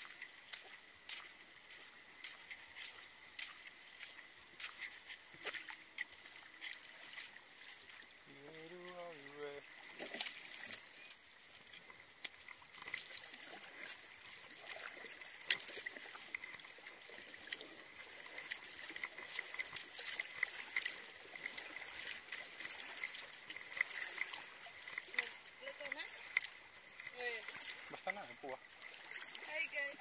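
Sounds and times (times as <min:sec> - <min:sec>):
water splashing around paddle: 0:00.0 - 0:30.0.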